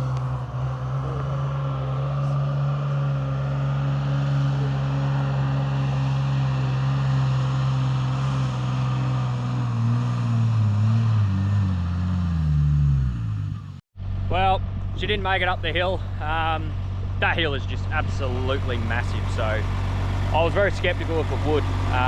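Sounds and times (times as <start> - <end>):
diesel engine pulling hard: 0.0 - 22.0.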